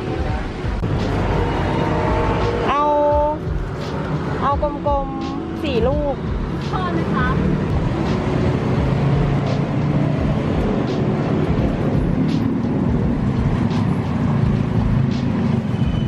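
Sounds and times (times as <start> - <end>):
road traffic engine rumble: 0.0 - 16.0.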